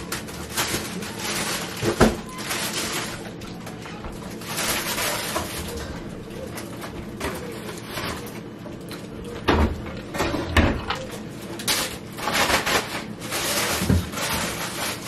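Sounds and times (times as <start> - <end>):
crackling: 0.0 - 15.0
people eating: 0.0 - 15.0.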